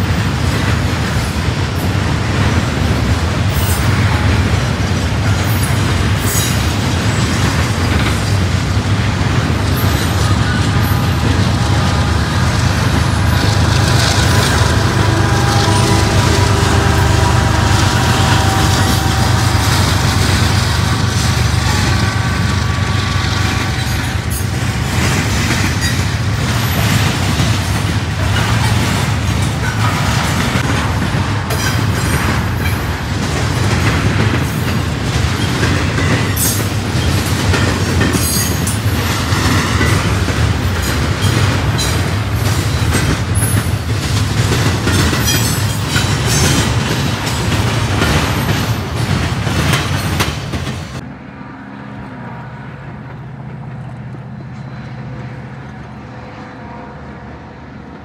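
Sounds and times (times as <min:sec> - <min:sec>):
freight train wheels clacking: 0:00.0 - 0:51.0, 0:53.0 - 0:56.1
distant train hum: 0:00.0 - 0:58.0.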